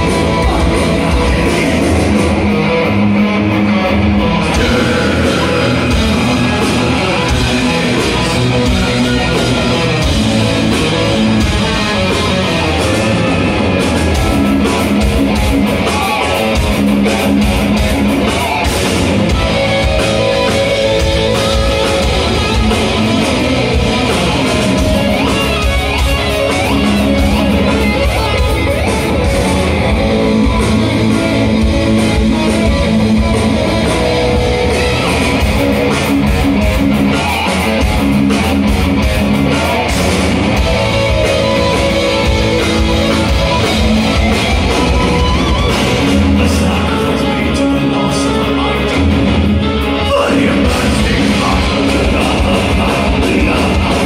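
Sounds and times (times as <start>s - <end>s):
live metal band playing: 0.0s - 54.0s.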